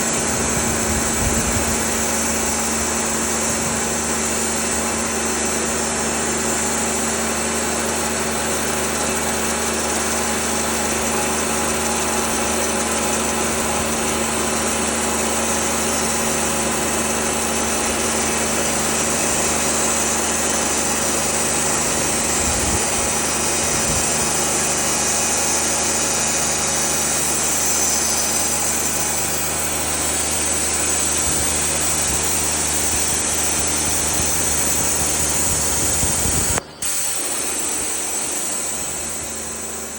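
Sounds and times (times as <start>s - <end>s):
sawmill engine droning: 0.0s - 39.9s.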